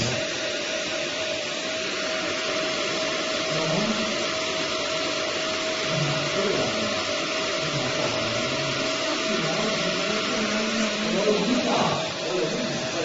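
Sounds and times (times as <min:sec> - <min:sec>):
laser machine fans blowing: 0:00.0 - 0:13.0.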